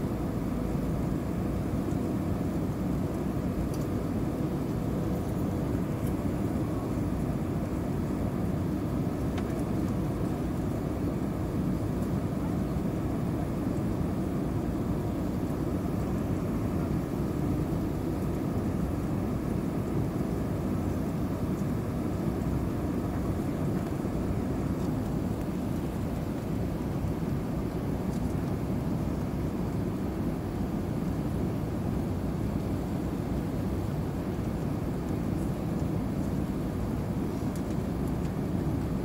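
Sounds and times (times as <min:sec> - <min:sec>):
turbofan engines humming: 0:00.0 - 0:39.0.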